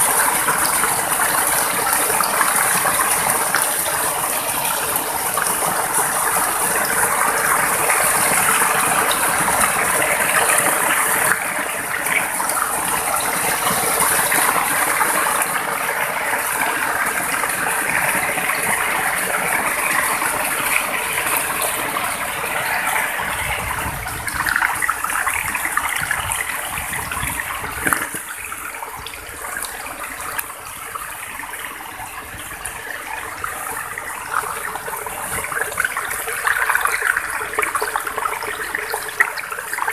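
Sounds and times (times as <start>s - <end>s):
water pouring over rocks: 0.0s - 39.9s.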